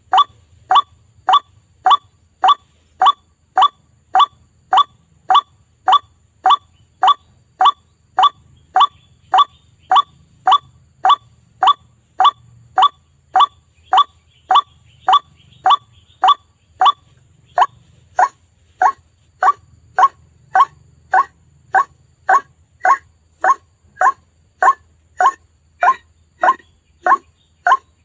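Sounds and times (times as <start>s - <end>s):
waterhen calling: 0.0s - 27.8s.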